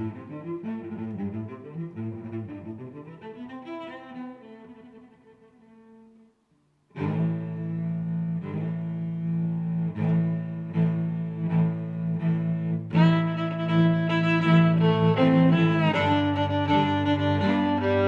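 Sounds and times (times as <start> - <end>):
low bowed strings music: 0.0 - 18.0.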